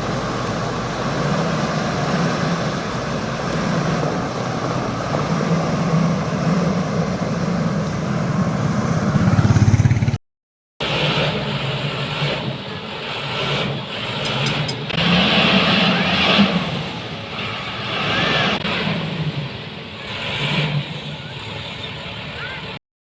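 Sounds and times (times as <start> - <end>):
heavy vehicle engine running: 0.0 - 10.2, 10.8 - 22.8.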